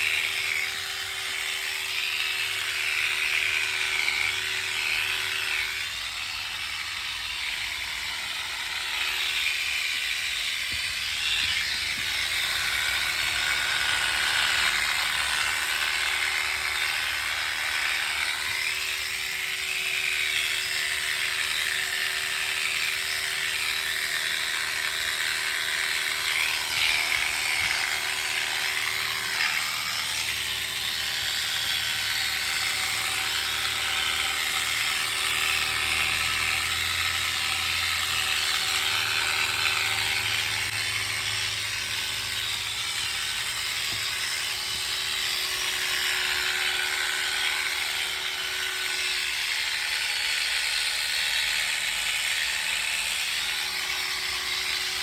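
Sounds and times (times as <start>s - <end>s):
electric clippers shearing wool: 0.0s - 55.0s.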